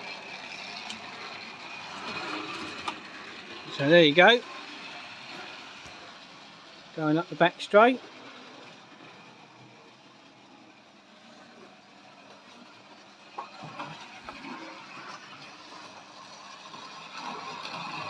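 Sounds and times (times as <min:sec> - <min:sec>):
model train track clicks: 0:00.0 - 0:18.0
model train wheels rattling on rails: 0:00.0 - 0:18.0.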